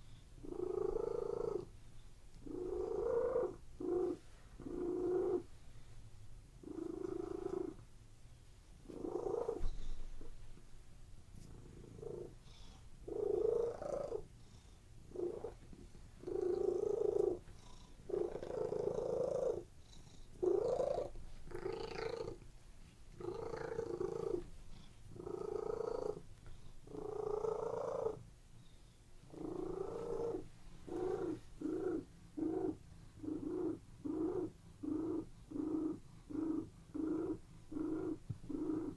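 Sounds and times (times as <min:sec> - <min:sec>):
cat purring: 0:00.0 - 0:06.0, 0:06.6 - 0:07.9, 0:08.8 - 0:10.7, 0:11.4 - 0:38.9.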